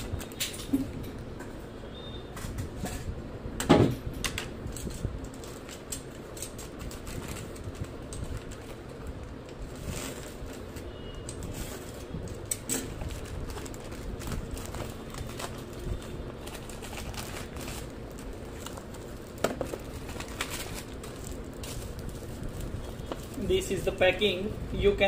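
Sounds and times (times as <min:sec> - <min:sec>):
plastic bag crinkling: 0:04.8 - 0:25.0.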